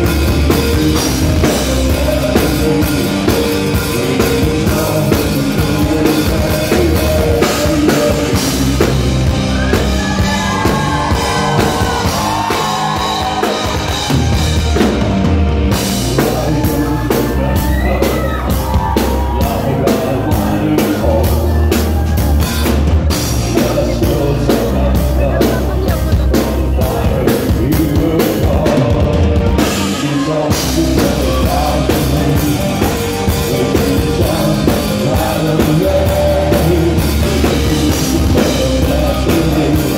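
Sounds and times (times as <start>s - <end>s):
man singing lead vocal: 0.0s - 15.0s, 15.7s - 39.9s
live rock band playing: 0.0s - 39.9s.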